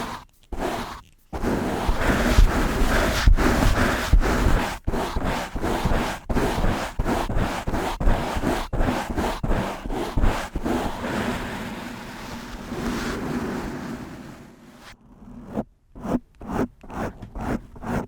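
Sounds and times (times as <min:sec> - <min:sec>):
brush scratching across microphone: 0:00.0 - 0:18.0.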